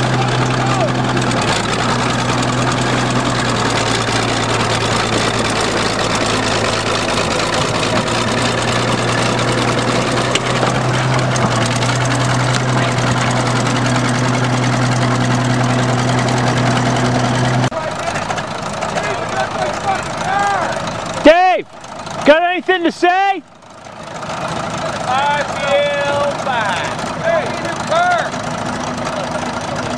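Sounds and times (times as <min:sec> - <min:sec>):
bulldozer diesel engine running: 0:00.0 - 0:29.9.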